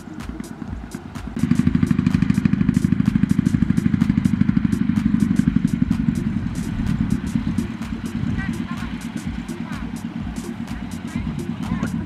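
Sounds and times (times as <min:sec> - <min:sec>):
diesel engine chugging: 0:00.0 - 0:12.0
light regular ticking: 0:00.0 - 0:12.0.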